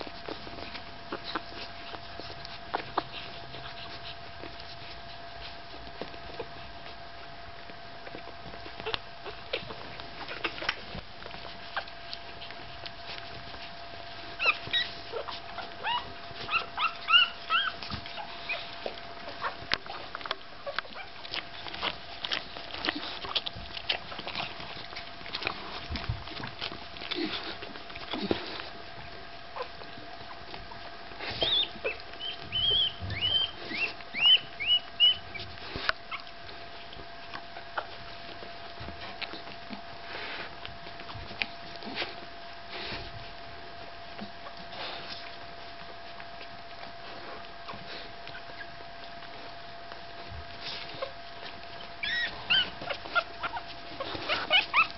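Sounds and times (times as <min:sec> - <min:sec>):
puppies squeaking and whimpering: 0:00.0 - 0:43.1, 0:44.0 - 0:54.9
puppies shifting clicks and rustles: 0:00.0 - 0:54.9.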